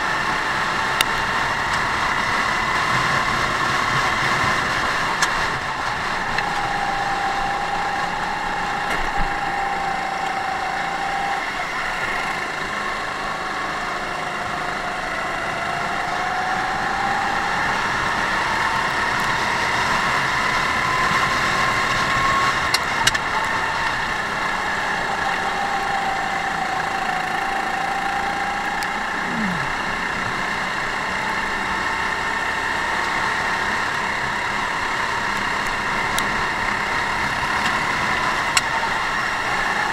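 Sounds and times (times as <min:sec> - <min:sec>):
go-kart engine under load: 0:00.0 - 0:39.9.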